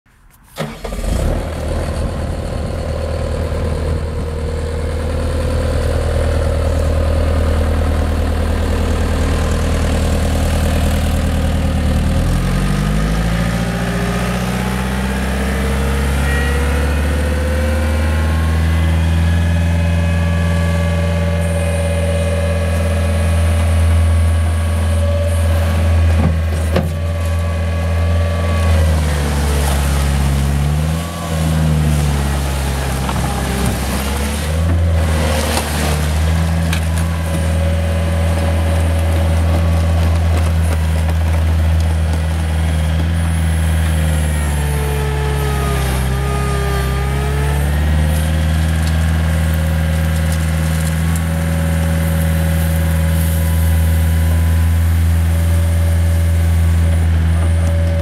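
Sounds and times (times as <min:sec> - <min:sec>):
diesel engine revving: 0:00.5 - 0:58.0.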